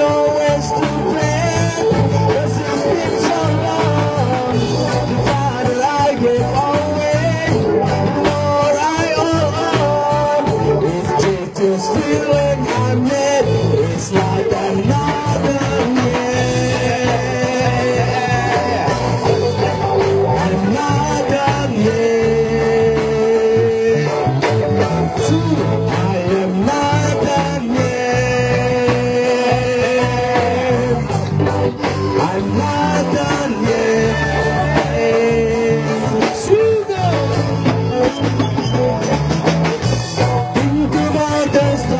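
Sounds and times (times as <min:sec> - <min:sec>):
lead vocal singing: 0:00.0 - 0:41.9
live band playing: 0:00.0 - 0:41.9.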